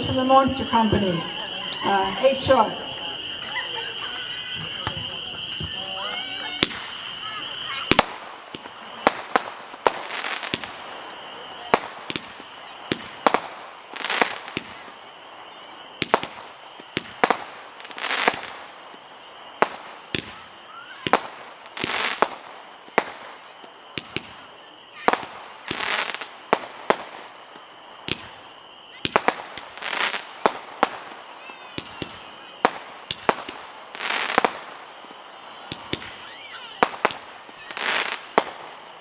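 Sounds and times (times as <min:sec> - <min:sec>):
firework crackle: 0:00.0 - 0:39.0.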